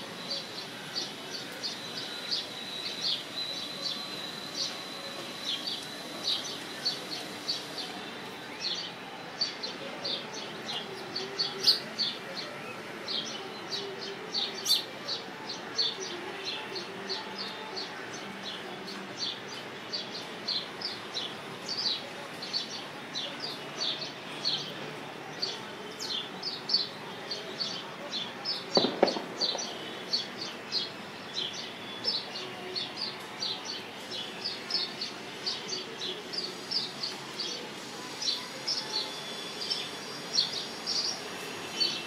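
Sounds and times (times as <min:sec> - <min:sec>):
background noise: 0:00.0 - 0:42.0
small birds chirping: 0:00.1 - 0:42.0.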